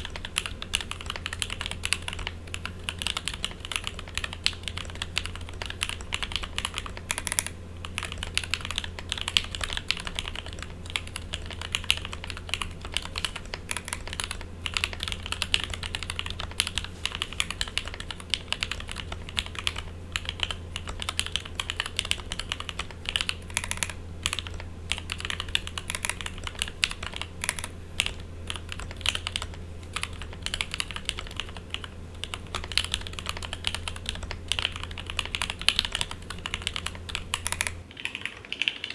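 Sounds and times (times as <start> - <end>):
steady low buzz: 0.0 - 37.9
mechanical keyboard typing: 0.0 - 38.9.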